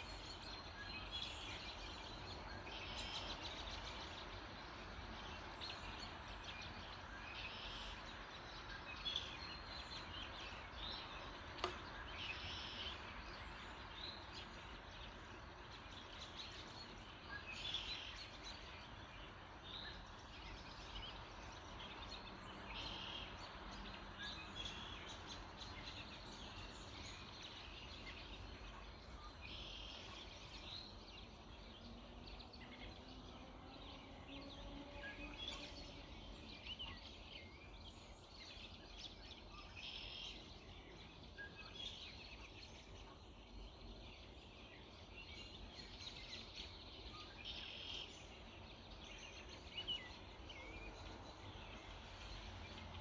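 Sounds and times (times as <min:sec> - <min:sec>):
dawn chorus birdsong: 0:00.0 - 0:53.0.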